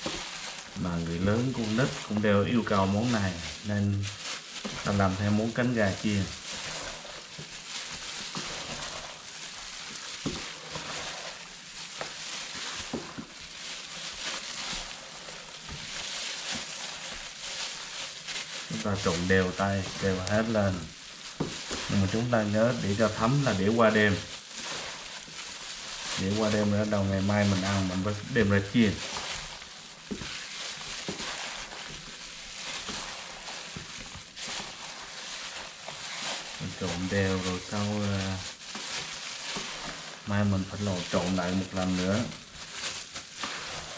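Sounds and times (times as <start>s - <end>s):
hands mixing chicken in marinade: 0.0s - 43.9s
steady hiss: 0.0s - 43.9s.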